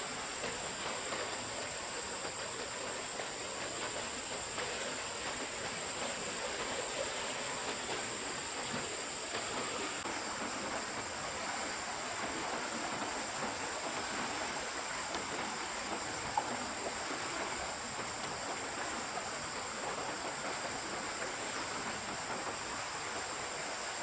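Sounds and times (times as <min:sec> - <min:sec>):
stream running: 0:00.0 - 0:24.0.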